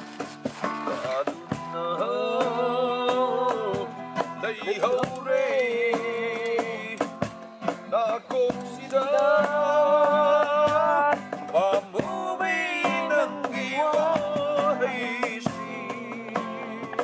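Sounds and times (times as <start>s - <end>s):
cajon beating: 0.0s - 17.0s
strummed acoustic guitar: 0.0s - 17.0s
man singing: 0.8s - 17.0s.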